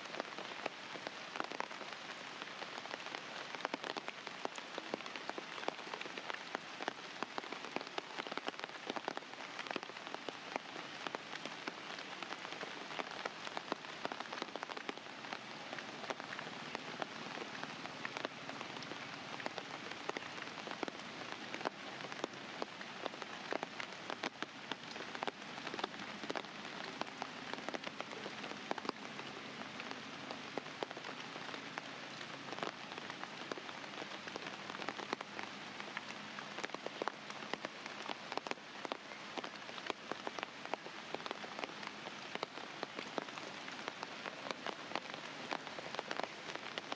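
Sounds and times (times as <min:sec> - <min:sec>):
raindrops ticking on a surface: 0:00.0 - 0:46.9
steady rain falling: 0:00.0 - 0:46.9.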